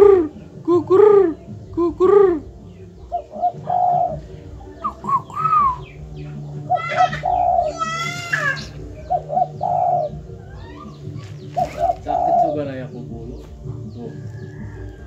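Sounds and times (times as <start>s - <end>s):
higher-pitched bird calls: 0.0s - 12.7s
dove cooing: 0.0s - 15.0s.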